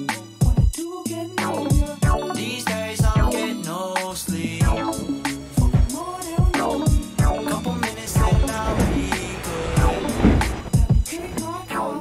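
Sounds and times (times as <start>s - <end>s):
rap music with heavy bass drum: 0.0s - 11.8s.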